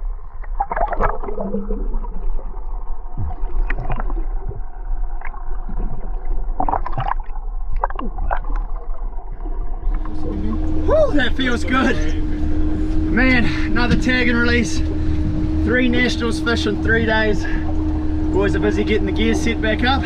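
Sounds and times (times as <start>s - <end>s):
steady low rumble: 0.0s - 20.0s
water sloshing and bubbling: 0.0s - 20.0s.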